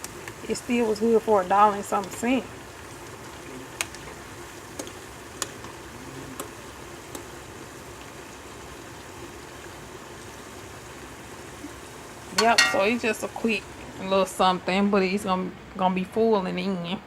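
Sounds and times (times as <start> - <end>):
hot oil sizzling: 0.0 - 15.3.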